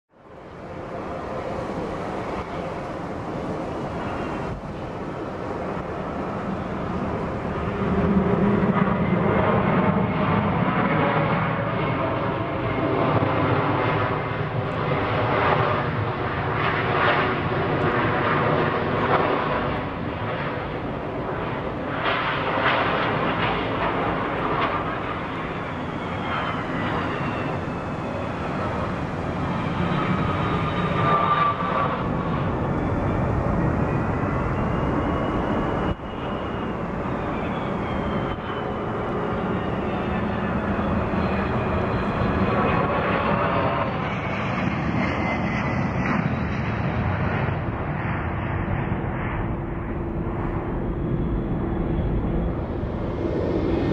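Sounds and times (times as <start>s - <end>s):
jet engine whine: 0.1s - 53.9s
jet engines roaring: 0.1s - 53.9s.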